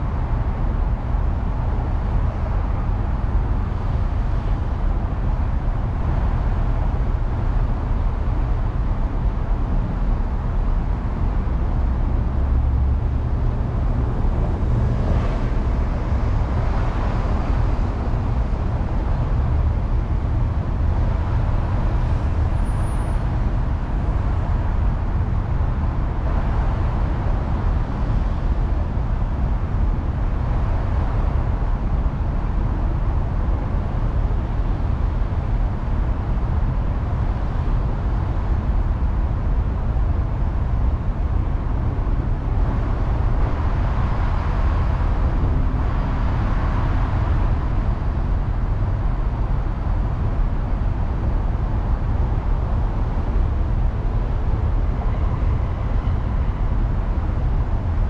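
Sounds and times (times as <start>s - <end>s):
faint traffic passing: 0.0s - 58.0s.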